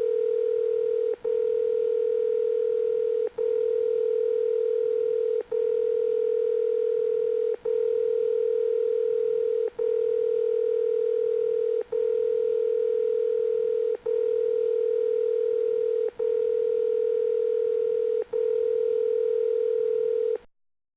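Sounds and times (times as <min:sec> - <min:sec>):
electronic telephone ring tone: 0:00.0 - 0:20.5.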